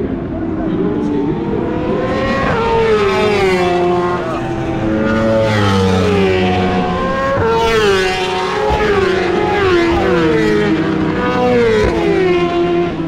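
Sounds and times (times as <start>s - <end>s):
racing motorcycles at high revs: 0.9s - 13.0s.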